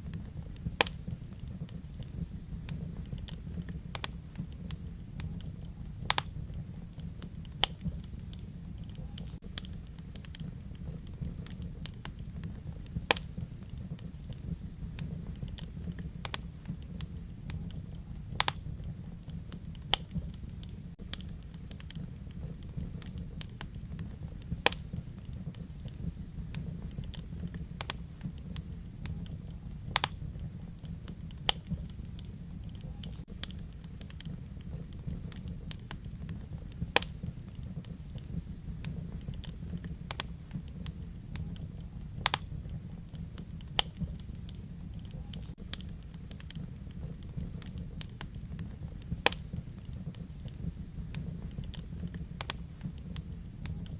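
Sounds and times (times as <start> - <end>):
burning logs crackling: 0.0 - 53.9
fire flame rumble: 0.0 - 53.9.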